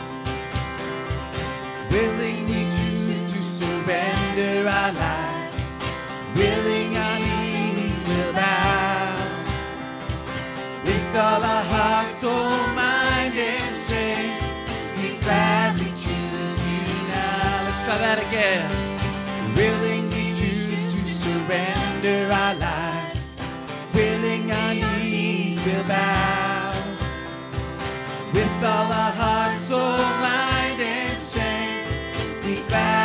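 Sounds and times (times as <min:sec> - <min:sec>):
acoustic guitar: 0:00.0 - 0:33.0
cajon beat: 0:00.0 - 0:33.0
keyboard: 0:00.0 - 0:33.0
voices singing: 0:01.9 - 0:33.0.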